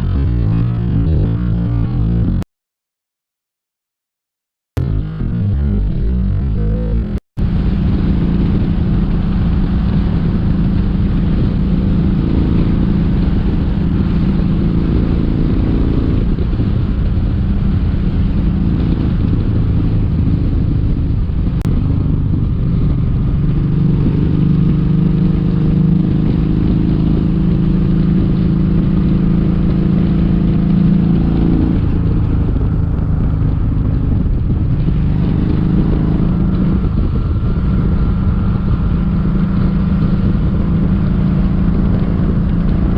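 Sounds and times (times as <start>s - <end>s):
motorcycle engine running: 0.0s - 2.4s, 4.8s - 42.9s.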